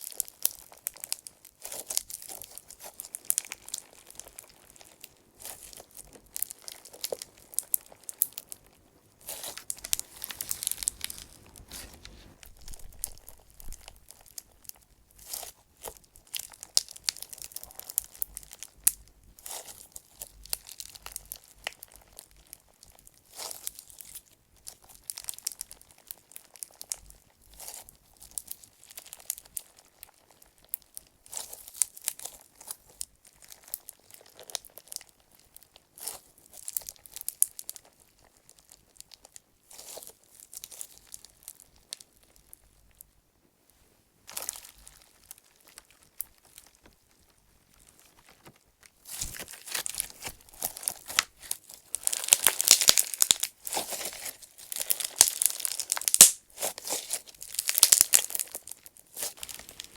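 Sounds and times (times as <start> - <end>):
crunchy slime being kneaded: 0.0 - 43.2, 44.1 - 59.9.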